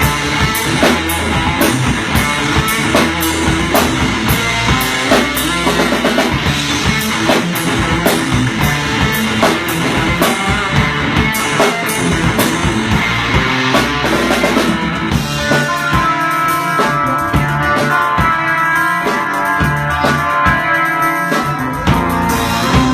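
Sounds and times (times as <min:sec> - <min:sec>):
rock music with drums and guitar: 0:00.0 - 0:22.9.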